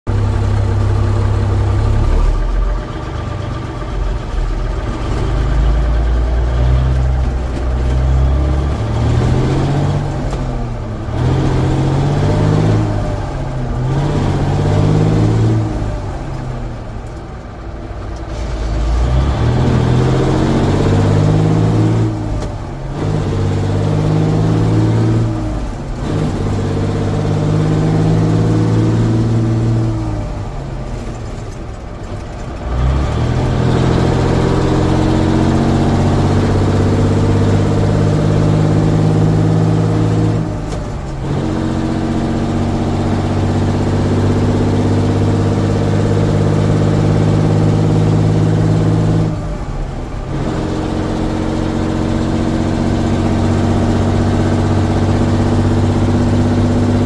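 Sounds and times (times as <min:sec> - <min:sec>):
diesel engine shifting gears: 0:00.0 - 0:57.0.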